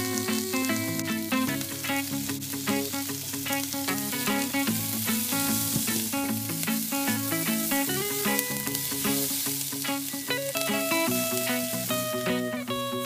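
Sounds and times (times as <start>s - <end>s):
food sizzling in a pan: 0.0s - 13.0s
plucked background music: 0.0s - 13.0s.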